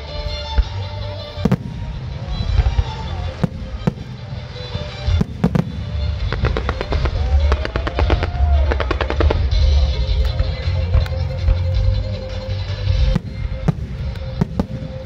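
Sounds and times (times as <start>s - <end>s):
music playing: 0.0s - 15.0s
fireworks bangs and cracks: 0.1s - 11.9s, 12.8s - 15.0s.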